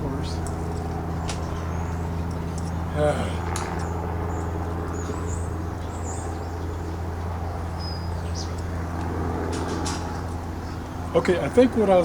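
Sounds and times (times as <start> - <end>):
birds chirping: 0.0 - 12.0
low engine drone: 0.0 - 12.0.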